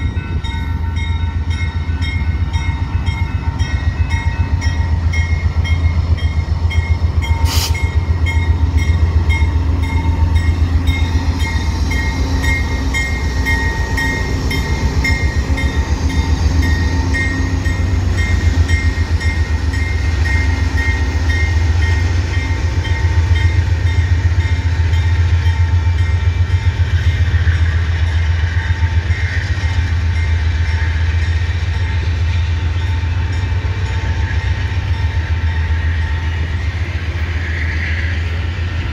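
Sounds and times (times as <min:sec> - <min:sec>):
level-crossing warning bell: 0:00.0 - 0:37.4
diesel locomotive engine rumbling: 0:00.0 - 0:38.9
train wheels clicking over rail joints: 0:00.0 - 0:38.9.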